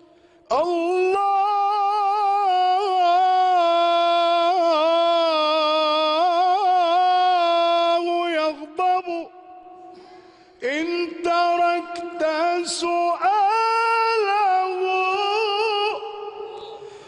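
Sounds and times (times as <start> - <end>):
man chanting: 0.4 - 9.8, 10.5 - 17.0.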